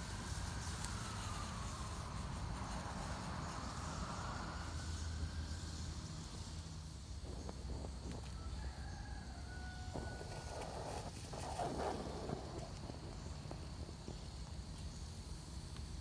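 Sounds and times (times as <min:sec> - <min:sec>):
distant traffic rumble: 0:00.0 - 0:16.0
twig fire crackling: 0:00.0 - 0:16.0.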